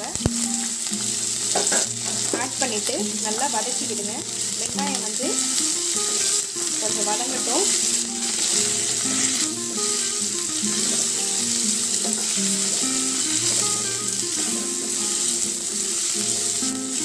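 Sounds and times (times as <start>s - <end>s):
background music: 0.0s - 17.0s
onions sizzling in hot oil: 0.0s - 17.0s
spatula stirring: 1.4s - 17.0s.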